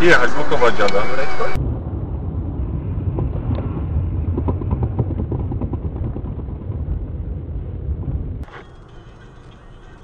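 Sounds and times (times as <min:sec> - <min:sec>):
road and engine rumble in car: 0:00.1 - 0:10.0.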